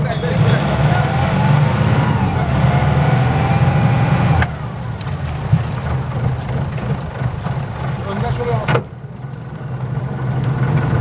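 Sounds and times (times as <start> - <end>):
bow thruster whining: 0.0 - 11.0
diesel engine running: 0.0 - 11.0.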